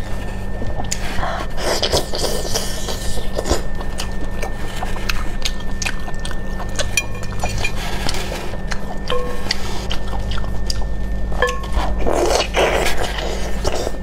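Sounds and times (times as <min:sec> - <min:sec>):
chewing octopus: 0:00.0 - 0:14.0
steady low hum: 0:00.0 - 0:14.0.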